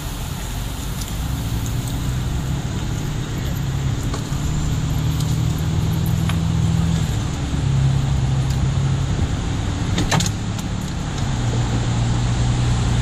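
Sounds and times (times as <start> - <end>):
car engine and tyre hum: 0.0 - 13.0.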